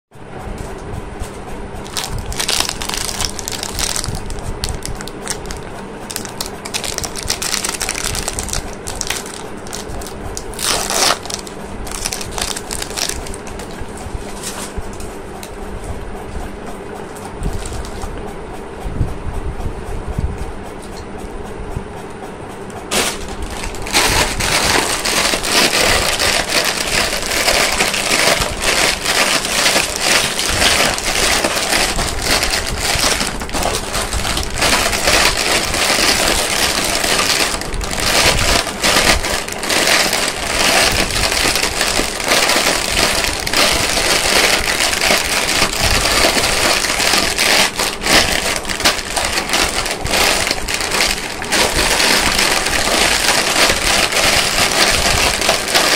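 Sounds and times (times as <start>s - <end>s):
candy wrapper crackling: 1.8s - 13.8s, 17.5s - 18.1s, 22.9s - 55.9s.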